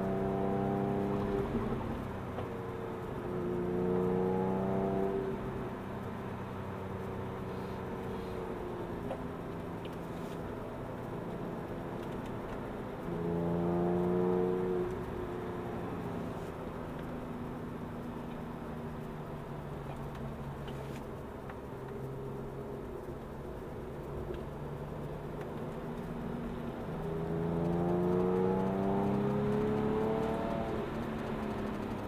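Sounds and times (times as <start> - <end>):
car engine from inside cabin: 0.0 - 32.0.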